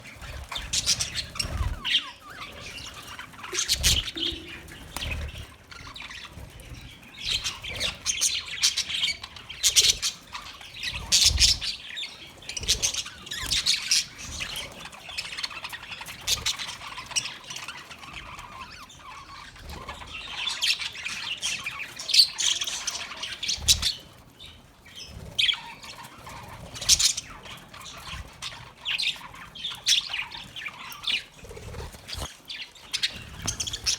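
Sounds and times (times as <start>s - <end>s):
budgerigars chirping and squawking: 0.0s - 33.9s.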